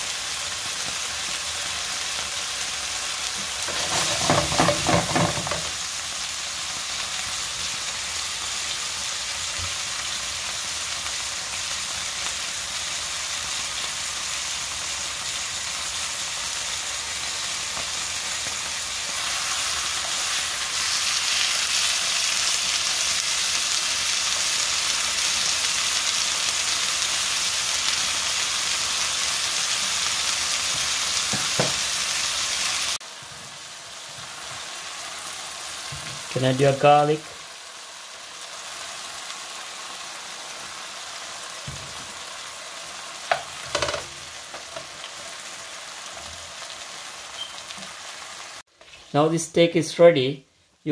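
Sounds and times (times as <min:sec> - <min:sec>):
steak sizzling in frying pan: 0:00.0 - 0:48.7.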